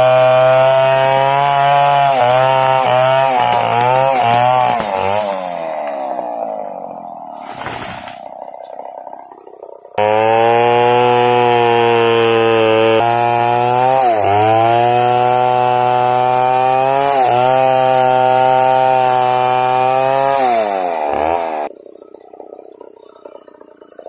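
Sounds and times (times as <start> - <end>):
chainsaw ripping a log: 0.0 - 24.0.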